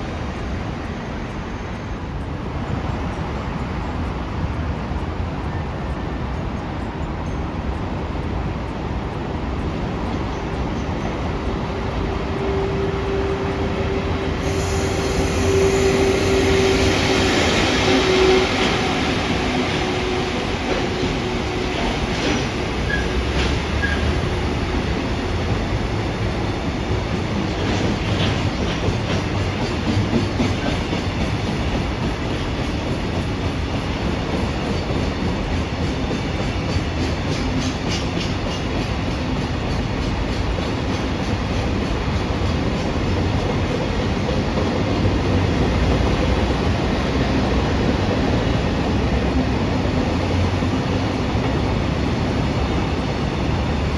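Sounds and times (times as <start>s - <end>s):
rail clicks: 0.0s - 53.9s
train running on rails: 0.0s - 53.9s.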